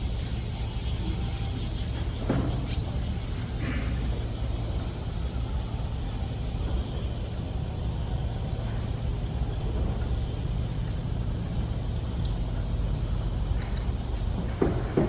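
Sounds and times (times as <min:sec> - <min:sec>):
even hiss: 0:00.0 - 0:15.0
low outdoor rumble: 0:00.0 - 0:15.0.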